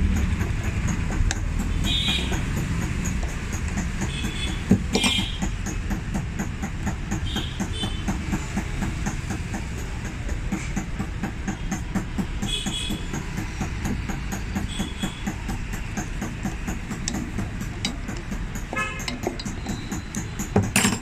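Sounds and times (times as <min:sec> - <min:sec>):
rhythmic machinery rumble: 0:00.0 - 0:21.0.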